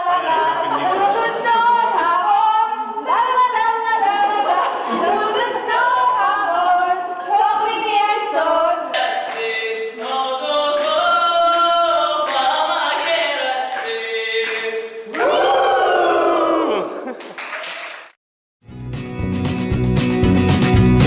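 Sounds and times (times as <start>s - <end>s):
voices singing together: 0.0s - 17.1s.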